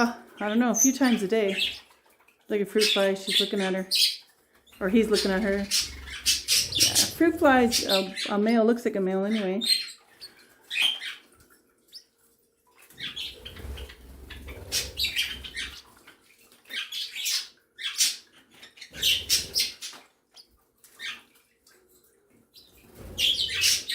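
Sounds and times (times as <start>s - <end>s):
pet birds chirping and calling: 0.0s - 12.2s, 12.8s - 23.9s.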